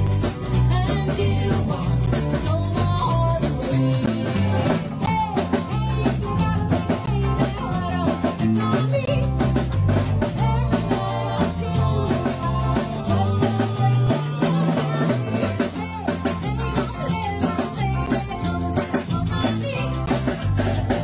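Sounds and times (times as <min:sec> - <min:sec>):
live rock and roll band: 0:00.0 - 0:21.0
walking bass line: 0:00.0 - 0:21.0.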